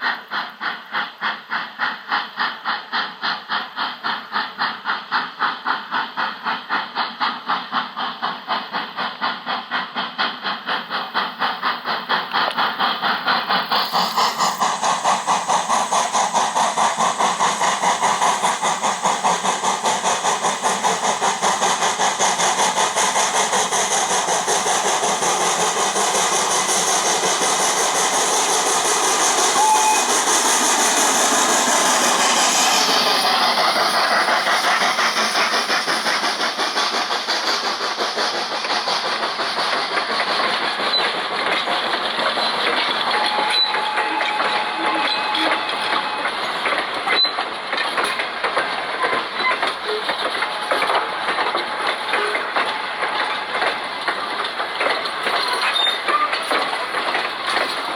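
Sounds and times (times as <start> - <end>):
steam hiss: 0.0 - 57.9
steam locomotive exhaust chuffs: 0.0 - 57.9
train wheels clattering on rails: 0.0 - 57.9.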